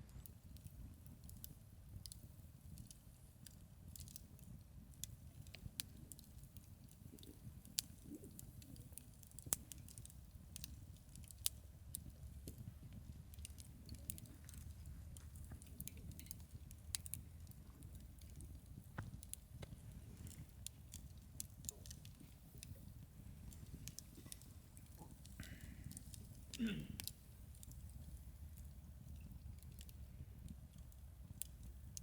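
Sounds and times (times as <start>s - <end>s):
campfire crackling and popping: 0.1s - 32.0s.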